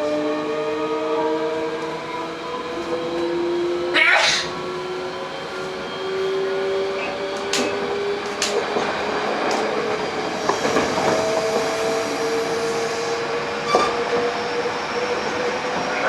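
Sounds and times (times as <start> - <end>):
train inverter whine: 0.0 - 16.0
wheel and rail rumble: 0.1 - 16.0.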